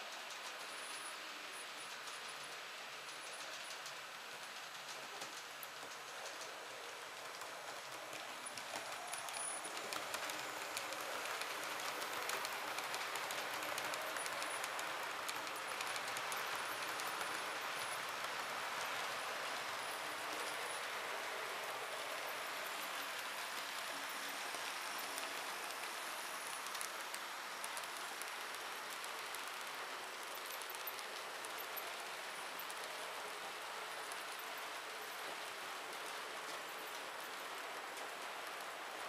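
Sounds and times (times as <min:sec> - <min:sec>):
model train wheels hissing on track: 0:00.0 - 0:39.0.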